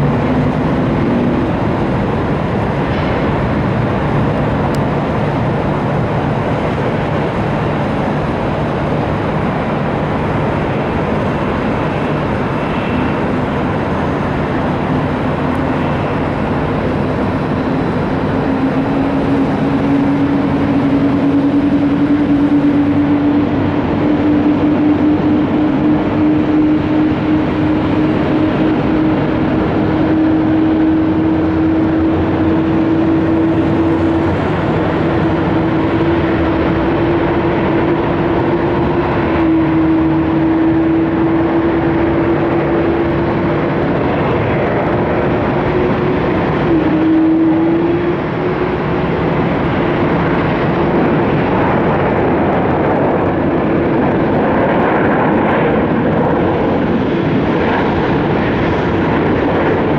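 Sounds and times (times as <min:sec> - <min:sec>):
engine rumble: 0:00.0 - 0:59.9
jet engines whining: 0:00.0 - 0:59.9.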